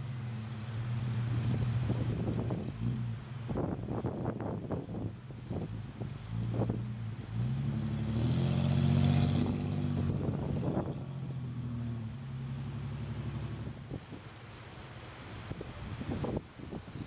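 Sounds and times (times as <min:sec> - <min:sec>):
suv engine under load: 0:00.0 - 0:16.8.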